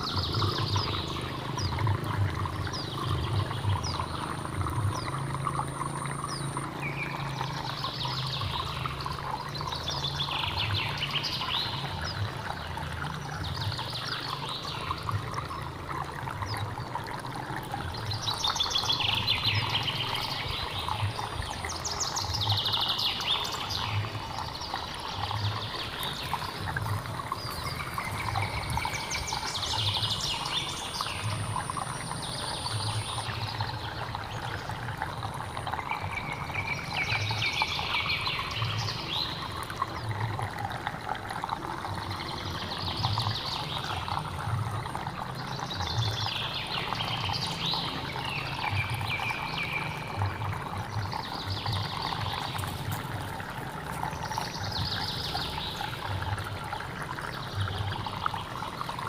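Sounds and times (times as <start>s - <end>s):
hill stream running: 0.0s - 59.0s.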